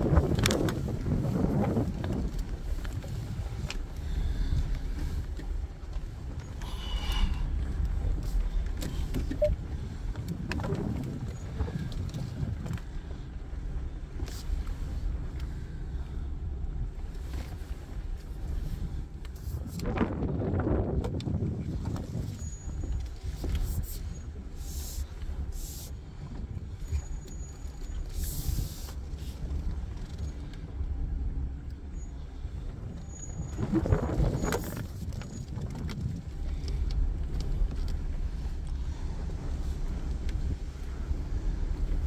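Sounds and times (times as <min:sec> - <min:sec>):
vehicle engine and tyres rumbling: 0:00.0 - 0:42.0.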